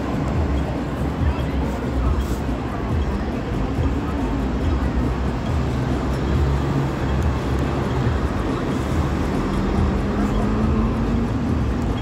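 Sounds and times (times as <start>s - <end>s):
passing traffic: 0.0s - 12.0s
vehicle engine humming: 0.0s - 12.0s.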